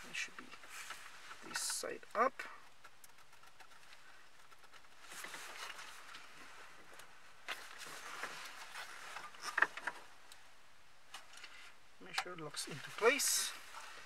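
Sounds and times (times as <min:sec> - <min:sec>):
rustling wires: 0:00.0 - 0:14.0.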